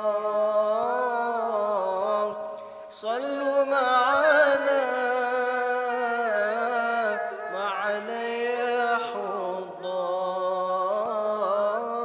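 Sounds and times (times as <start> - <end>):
person singing devotional song: 0.0 - 12.0.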